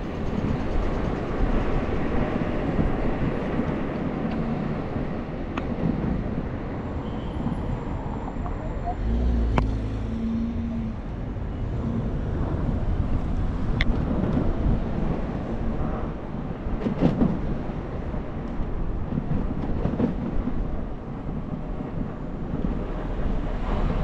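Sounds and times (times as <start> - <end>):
road noise: 0.0 - 24.0
wind rumbling on microphone: 0.0 - 24.0.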